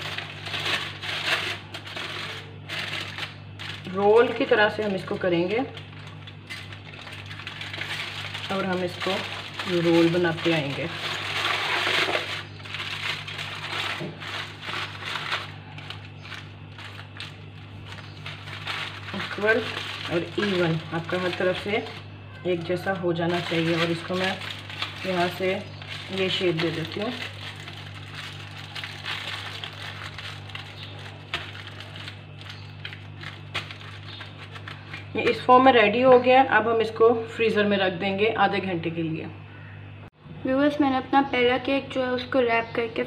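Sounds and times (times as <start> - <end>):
aluminium foil crinkling: 0.0 - 36.3
steady low hum: 0.0 - 43.0.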